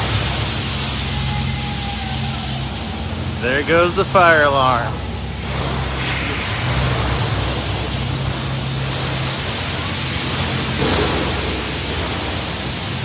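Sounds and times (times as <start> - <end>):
low steady hum: 0.0 - 13.0
water spraying with a hiss: 0.0 - 13.0.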